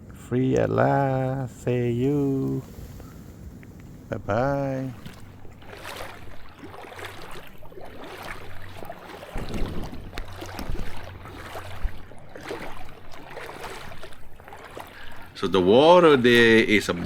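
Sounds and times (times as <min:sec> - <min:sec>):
river water splashing: 0:00.6 - 0:17.0.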